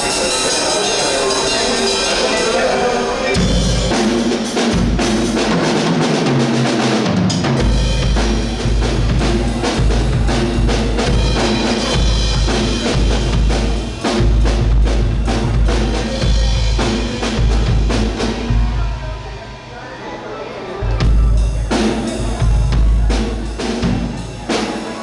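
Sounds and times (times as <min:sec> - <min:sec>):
drum kit beat: 0:00.0 - 0:19.2, 0:20.8 - 0:25.0
live band playing: 0:00.0 - 0:25.0
bass line: 0:01.2 - 0:19.8, 0:20.8 - 0:25.0.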